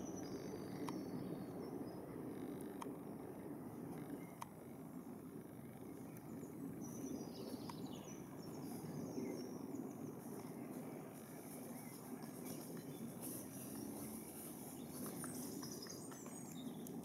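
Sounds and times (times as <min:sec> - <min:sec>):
low background noise: 0:00.0 - 0:17.0
small birds singing: 0:00.0 - 0:17.0.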